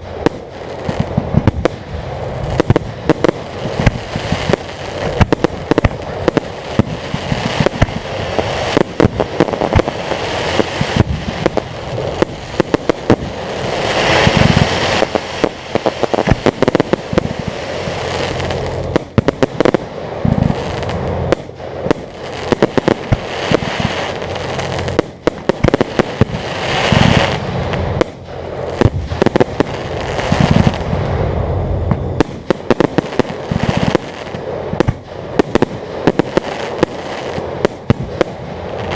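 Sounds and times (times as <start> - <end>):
fireworks booms: 0.0 - 38.9
fireworks crackling and popping: 0.0 - 38.9.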